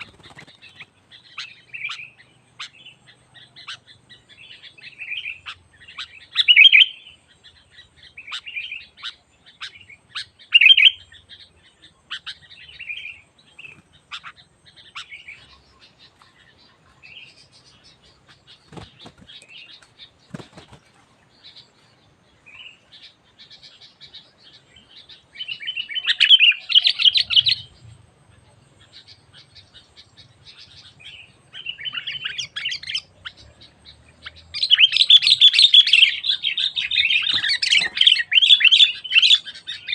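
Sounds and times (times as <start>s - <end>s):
bulbul bubbly calls: 0.0s - 21.7s, 22.4s - 39.9s
bird chattering: 0.0s - 39.9s.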